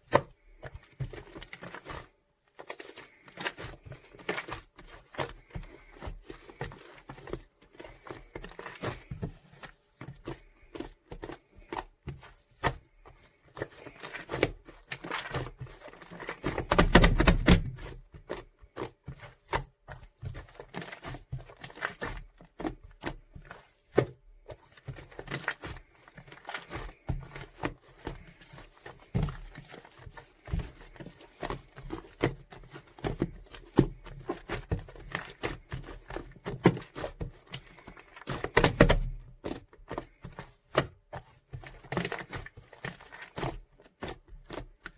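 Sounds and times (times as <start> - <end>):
shaving foam squishing by hand: 0.0 - 44.9.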